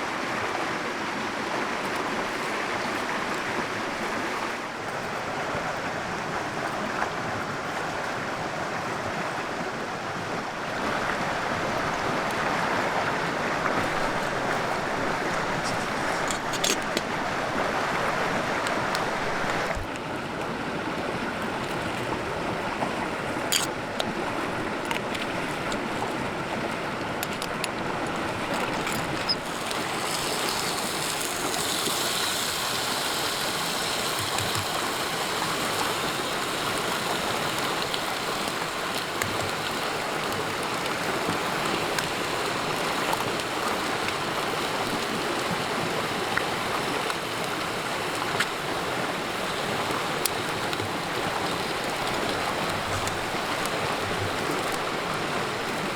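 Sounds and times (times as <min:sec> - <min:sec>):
river water running over stones: 0:00.0 - 0:55.9.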